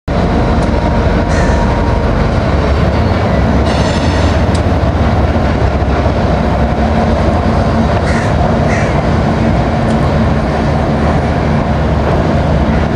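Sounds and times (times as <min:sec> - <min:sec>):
freight train rumbling over bridge: 0:00.1 - 0:12.9.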